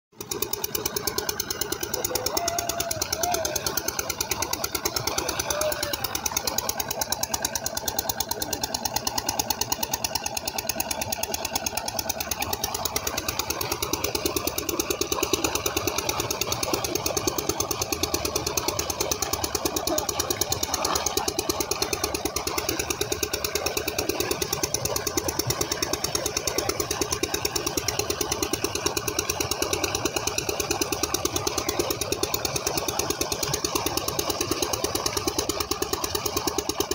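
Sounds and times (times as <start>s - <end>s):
water gushing into tank: 0.2s - 36.9s.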